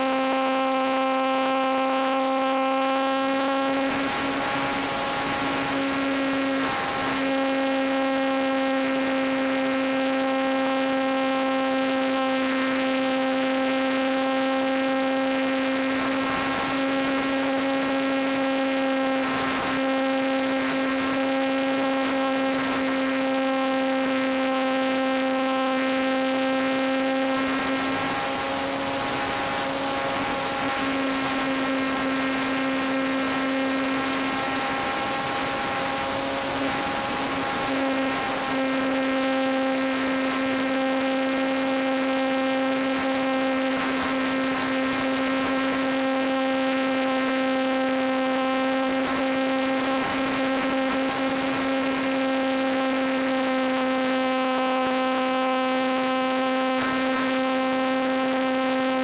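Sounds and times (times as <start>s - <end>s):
electric motor propeller whine: 0.0s - 59.0s.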